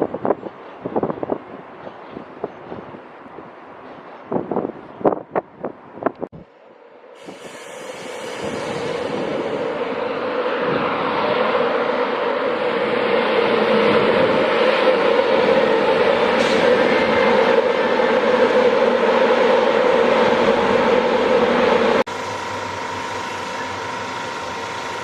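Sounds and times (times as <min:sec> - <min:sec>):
train approaching: 0:00.0 - 0:25.0.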